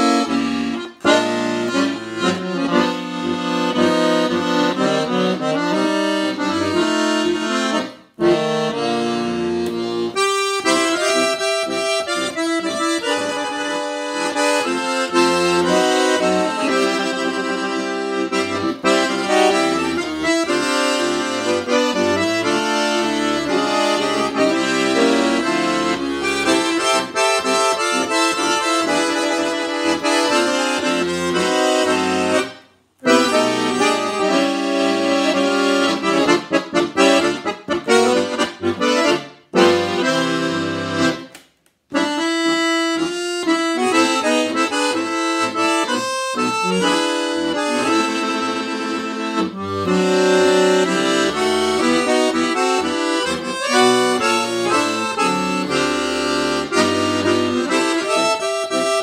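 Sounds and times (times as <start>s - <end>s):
piano accordion playing a tune: 0.0s - 59.0s.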